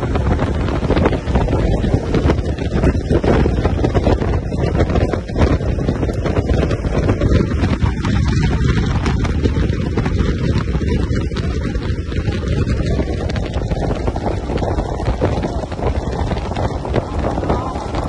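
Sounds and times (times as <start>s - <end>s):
outboard motors at high speed: 0.0s - 18.0s
rushing boat wake and spray: 0.0s - 18.0s
wind buffeting microphone: 0.0s - 18.0s.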